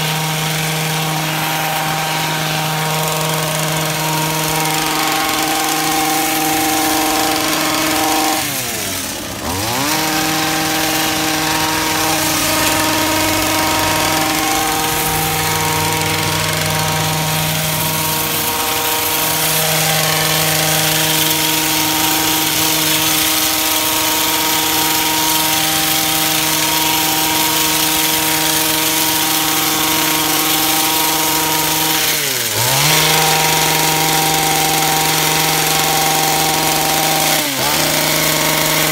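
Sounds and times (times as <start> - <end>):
hedge trimmer engine revving: 0.0 - 38.9.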